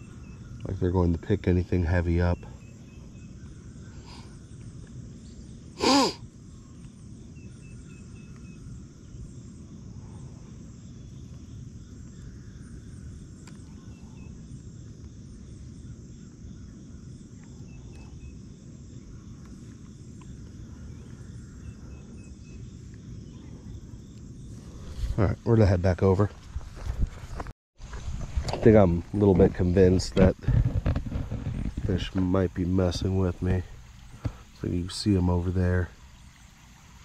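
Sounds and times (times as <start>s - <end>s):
high insect drone: 0.0s - 27.0s, 27.9s - 37.0s.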